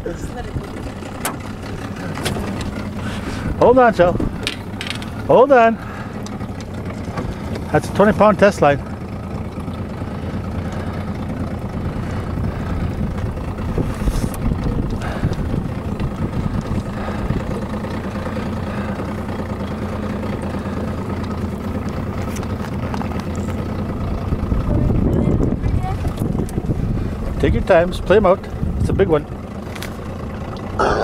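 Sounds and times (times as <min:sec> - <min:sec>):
boat motor idling: 0:00.0 - 0:31.0.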